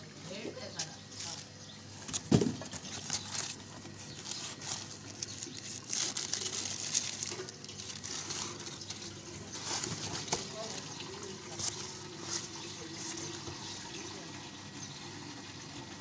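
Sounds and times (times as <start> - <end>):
cardboard and paper rustling: 0.8 - 14.0.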